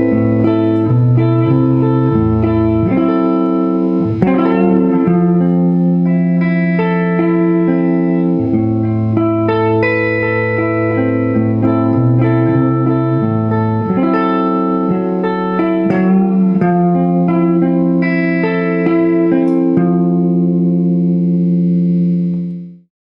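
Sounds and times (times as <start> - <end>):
electric guitar chords: 0.0 - 22.9.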